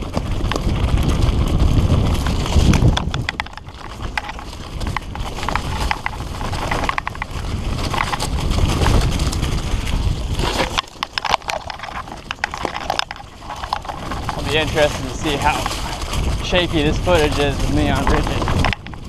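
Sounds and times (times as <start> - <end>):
mountain bike rattling and clicking: 0.0 - 19.0
wind rumble on microphone: 0.0 - 19.0.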